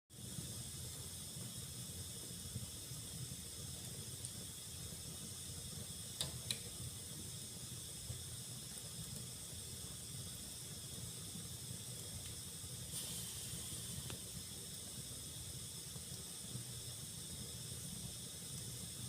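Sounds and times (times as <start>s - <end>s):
wood fire hissing: 0.1s - 19.0s.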